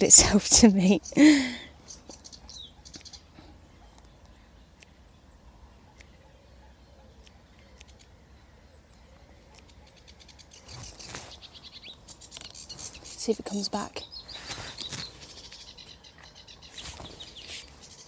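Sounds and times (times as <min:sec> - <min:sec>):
bird rapid chattering song: 0:00.0 - 0:18.0
faint wind: 0:00.0 - 0:18.0.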